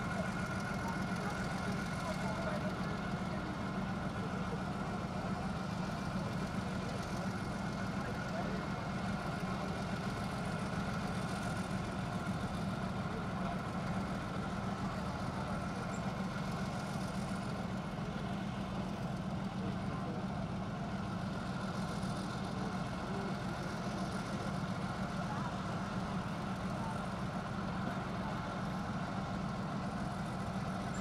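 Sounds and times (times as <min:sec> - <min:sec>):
heavy diesel engines droning: 0:00.0 - 0:31.0.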